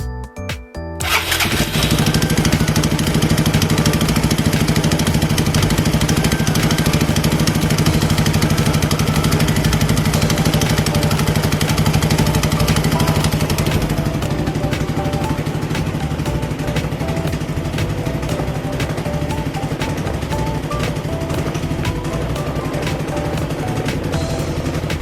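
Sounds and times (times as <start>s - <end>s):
scooter engine idling: 1.0s - 25.0s.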